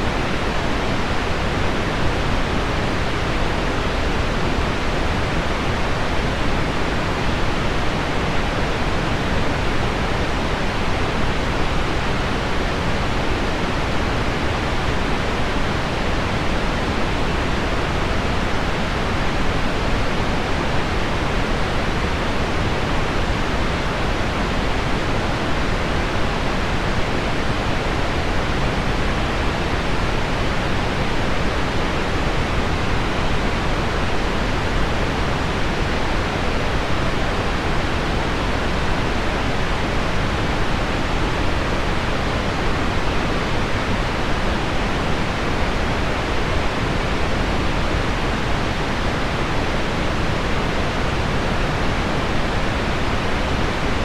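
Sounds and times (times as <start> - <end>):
low pink noise: 0.0 - 54.0.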